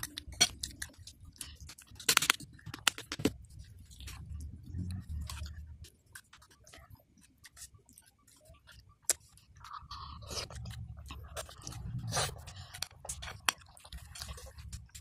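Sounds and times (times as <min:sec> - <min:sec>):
wet chewing: 0:00.0 - 0:15.0.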